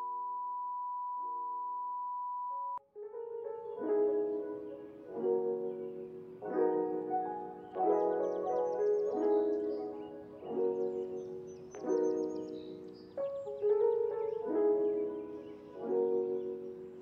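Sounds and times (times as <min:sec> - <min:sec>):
soft piano-like chords: 0:02.8 - 0:17.0.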